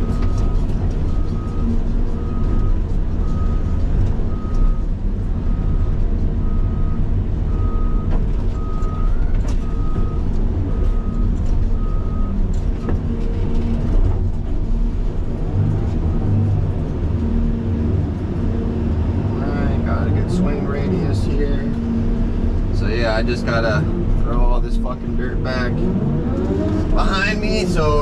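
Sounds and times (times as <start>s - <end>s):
excavator diesel engine: 0.0s - 28.0s.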